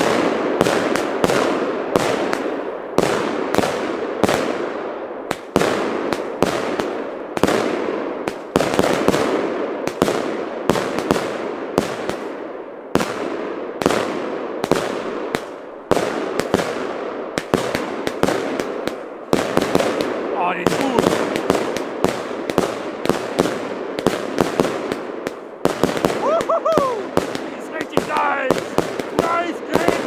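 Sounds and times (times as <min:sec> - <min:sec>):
firework bangs with crackling: 0:00.0 - 0:30.0.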